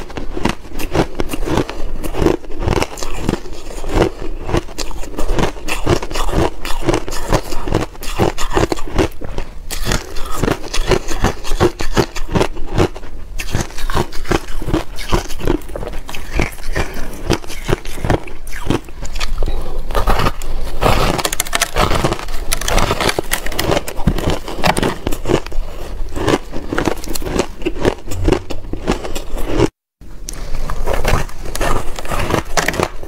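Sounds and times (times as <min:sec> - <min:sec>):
crisp ice crunching chewing: 0:00.0 - 0:33.0.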